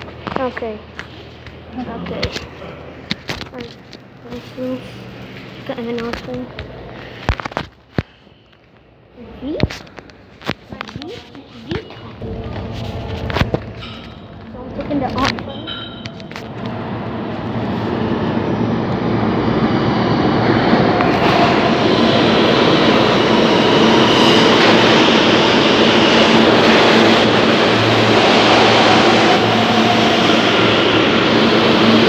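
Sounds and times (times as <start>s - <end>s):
subway train rumbling: 0.0s - 7.3s, 8.9s - 32.0s.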